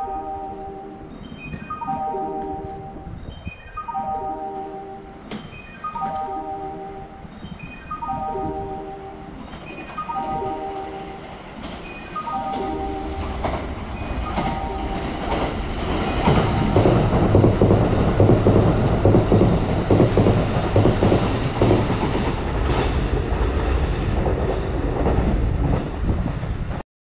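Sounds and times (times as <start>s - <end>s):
train rumble: 0.0s - 26.8s.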